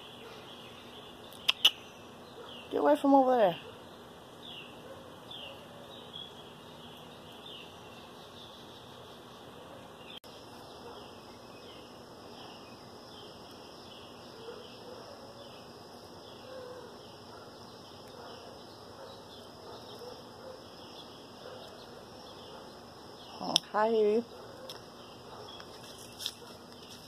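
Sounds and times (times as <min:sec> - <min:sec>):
insect high drone: 0:00.0 - 0:27.0.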